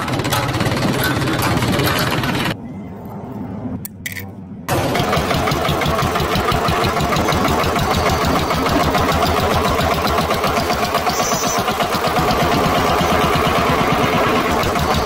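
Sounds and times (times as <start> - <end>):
tractor engine chugging: 0.0 - 2.6, 4.7 - 15.0.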